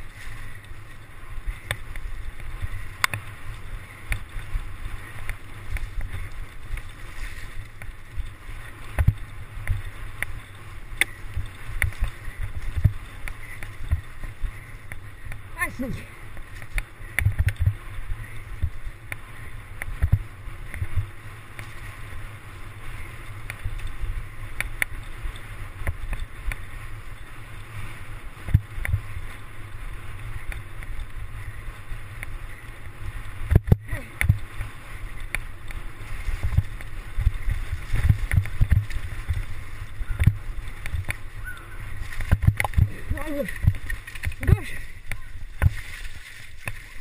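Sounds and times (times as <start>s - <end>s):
bike jolting over rough trail: 0.0s - 47.0s
tyre and wind hiss: 0.0s - 47.0s.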